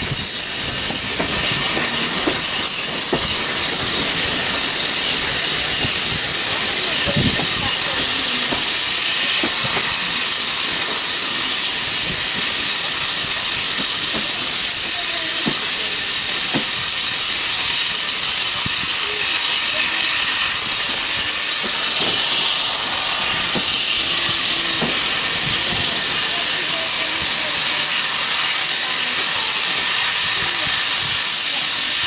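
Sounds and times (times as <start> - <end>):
steam locomotive hissing steam: 0.0 - 32.0.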